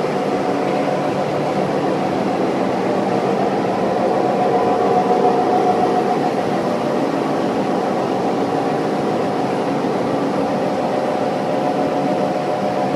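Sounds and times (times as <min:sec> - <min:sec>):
machine hum with whine: 0:00.0 - 0:12.9.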